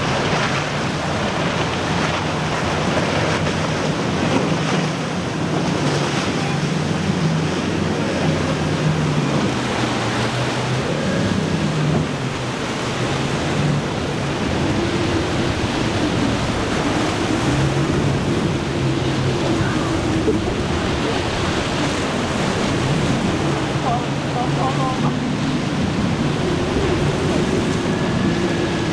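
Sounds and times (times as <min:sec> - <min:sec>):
boat engines droning: 0:00.0 - 0:28.9
waves rushing: 0:00.0 - 0:28.9
wind buffeting microphone: 0:00.0 - 0:28.9.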